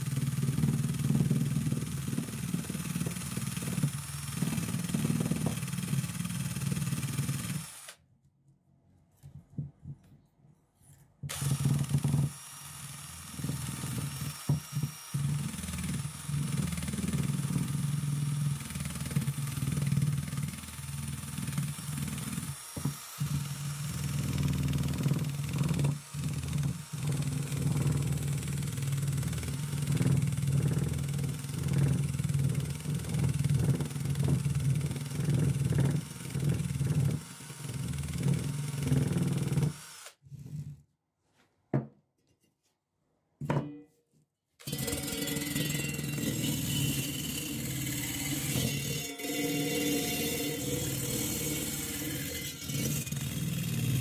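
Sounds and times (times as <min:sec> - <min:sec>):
drill with wire brush scrubbing metal: 0:00.0 - 0:08.0, 0:11.3 - 0:40.8, 0:44.6 - 0:54.0.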